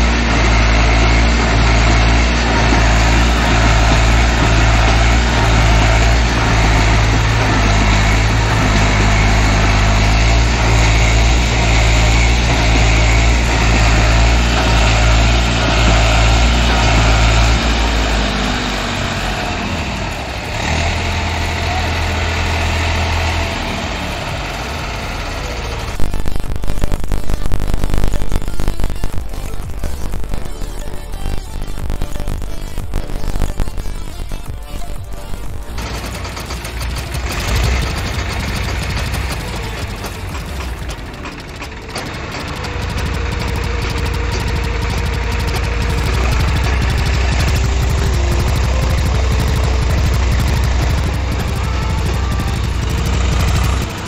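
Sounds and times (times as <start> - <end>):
tractor diesel engine straining: 0.0 - 54.0.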